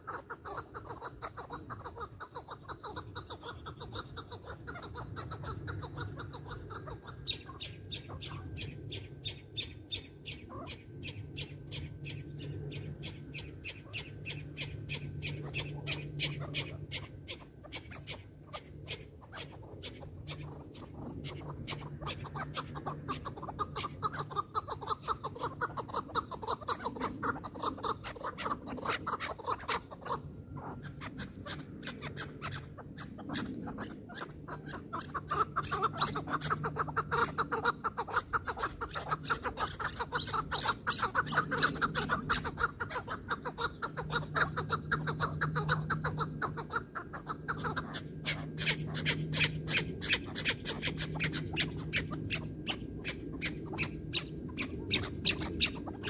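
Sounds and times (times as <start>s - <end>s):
partridges calling: 0.0s - 56.0s.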